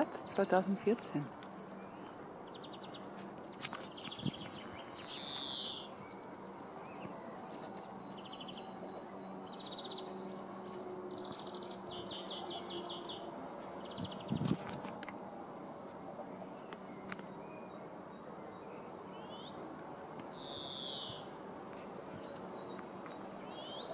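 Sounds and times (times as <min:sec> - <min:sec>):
songbirds singing trills: 0:00.0 - 0:23.9.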